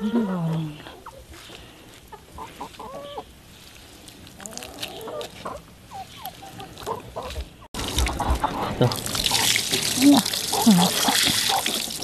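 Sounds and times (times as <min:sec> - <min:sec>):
chickens clucking: 0:00.0 - 0:03.4, 0:04.2 - 0:11.9.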